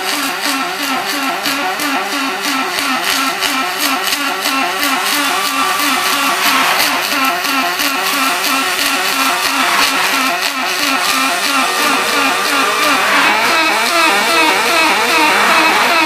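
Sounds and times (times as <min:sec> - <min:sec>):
welding arc buzzing: 0:00.0 - 0:16.0.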